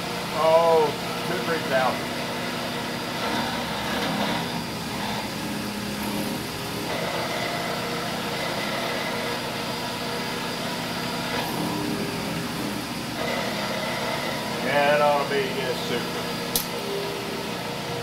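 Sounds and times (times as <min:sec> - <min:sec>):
end mill cutting metal: 0:00.0 - 0:18.0
milling machine motor hum: 0:00.0 - 0:18.0.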